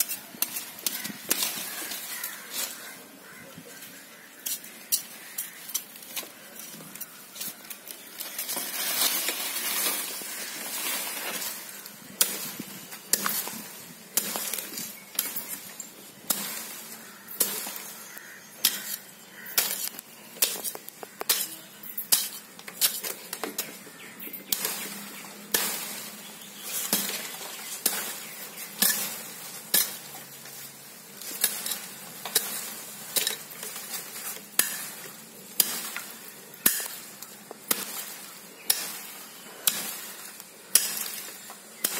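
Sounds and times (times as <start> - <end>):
metal tool chopping soil and roots: 0.0 - 3.4, 4.2 - 41.9.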